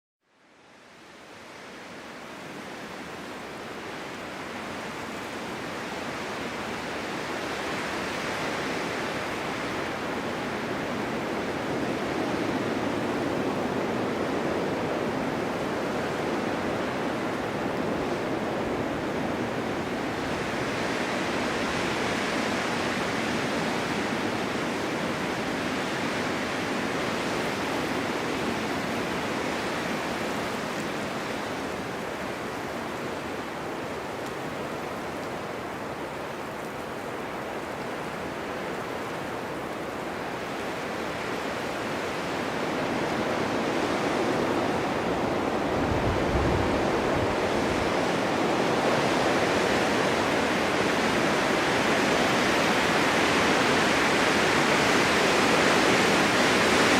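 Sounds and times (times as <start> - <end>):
blizzard wind gusting: 0.7 - 56.9.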